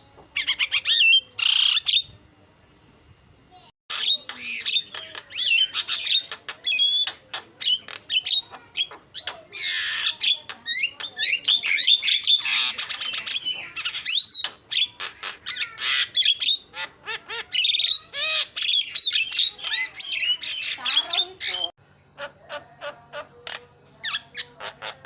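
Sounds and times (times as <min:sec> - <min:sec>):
myna chattering song: 0:03.9 - 0:25.0.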